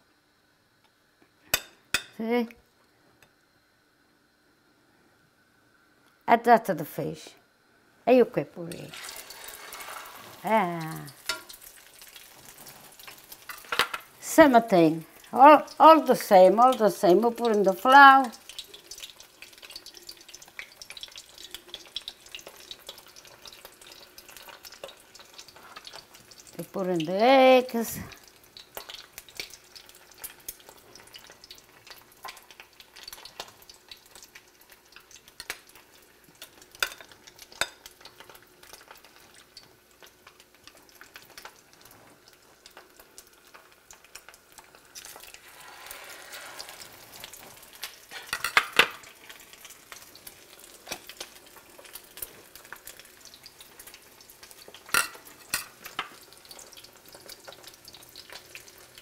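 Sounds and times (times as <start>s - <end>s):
fish frying in oil: 8.1s - 59.0s.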